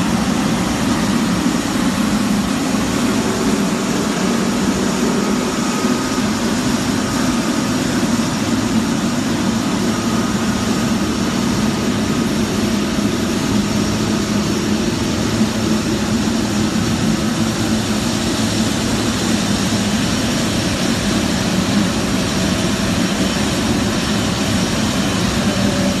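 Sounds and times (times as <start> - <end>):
high turbine whine: 0.0 - 26.0
jet airliner hum: 0.0 - 26.0.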